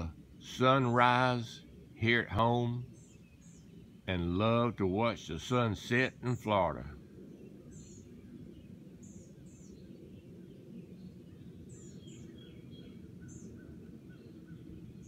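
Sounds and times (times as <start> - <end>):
birds chirping: 0.0 - 15.0
low outdoor rumble: 0.0 - 15.0.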